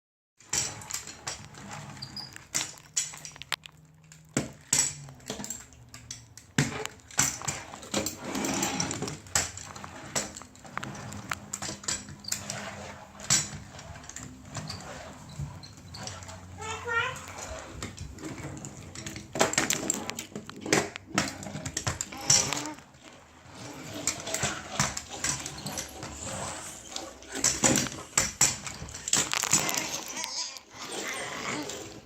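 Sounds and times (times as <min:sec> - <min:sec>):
plastic toy truck rattling: 0:00.4 - 0:32.0.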